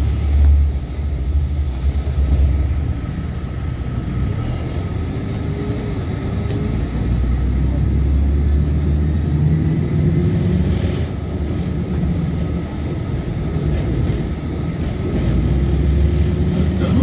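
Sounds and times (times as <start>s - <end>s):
bus diesel engine droning: 0.0s - 17.0s
road rumble: 0.0s - 17.0s.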